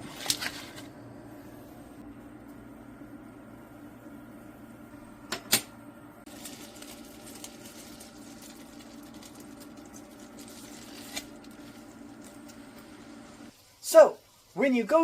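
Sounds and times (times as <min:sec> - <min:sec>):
low steady hum: 0:00.0 - 0:14.7.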